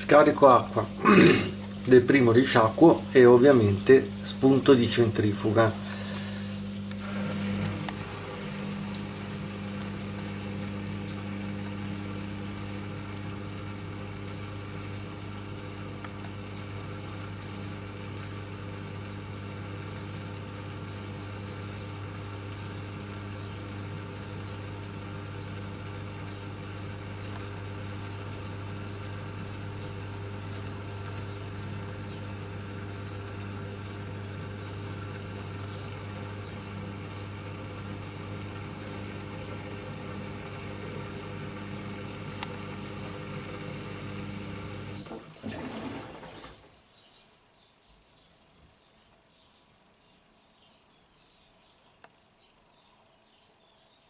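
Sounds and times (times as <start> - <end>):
washing machine motor humming: 0.0 - 46.8.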